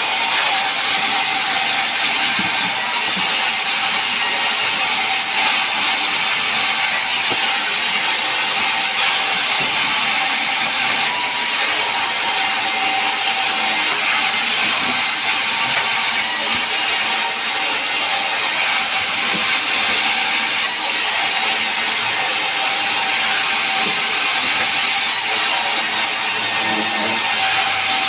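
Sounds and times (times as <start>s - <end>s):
sawmill saw cutting logs: 0.0s - 28.0s.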